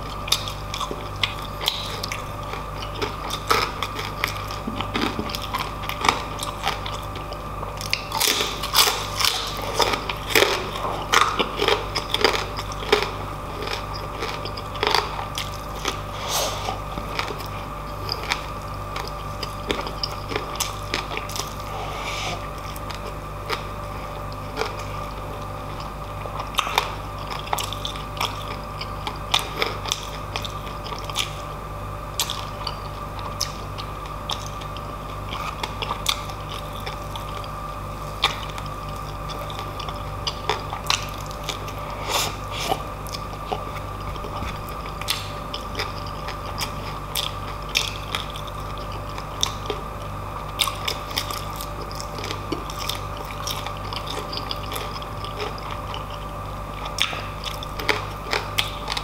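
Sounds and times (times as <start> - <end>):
chewing and crunching crispy food: 0.0 - 59.0.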